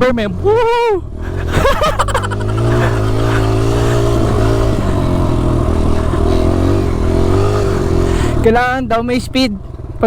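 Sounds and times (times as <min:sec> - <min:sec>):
dirt bike engine running: 0:01.1 - 0:10.0.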